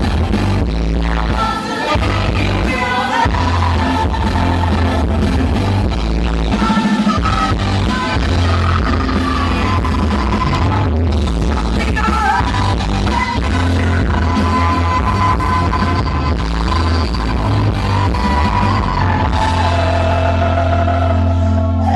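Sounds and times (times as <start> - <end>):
pop music with singing: 0.0 - 21.9.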